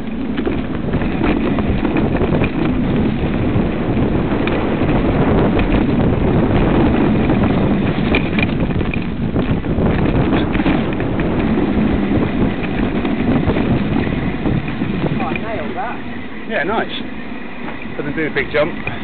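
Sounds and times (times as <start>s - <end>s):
tyres rumbling on dirt trail: 0.0s - 19.0s
wind buffeting microphone: 0.0s - 19.0s.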